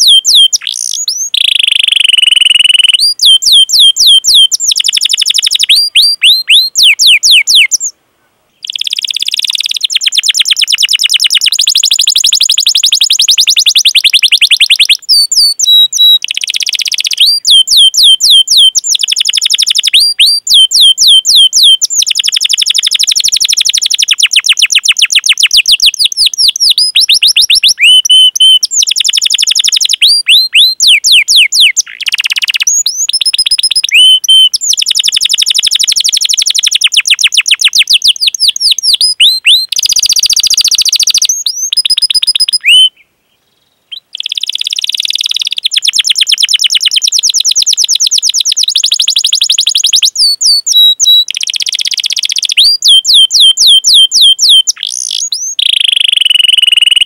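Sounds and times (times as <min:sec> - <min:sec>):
canary singing: 0:00.0 - 0:08.0, 0:08.6 - 0:43.0, 0:43.9 - 0:57.0.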